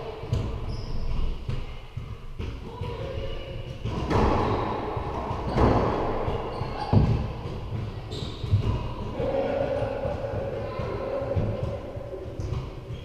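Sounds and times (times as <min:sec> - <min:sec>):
racquetball hits echoing: 0:00.0 - 0:13.0.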